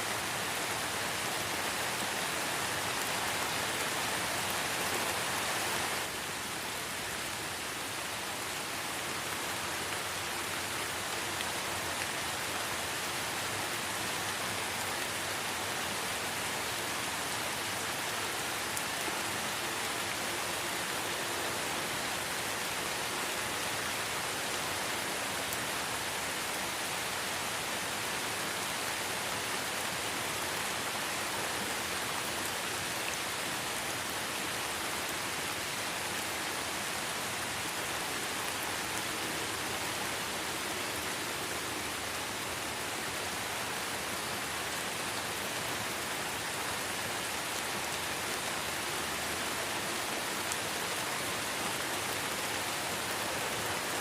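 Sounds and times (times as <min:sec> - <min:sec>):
light rain in a forest: 0:00.0 - 0:54.0.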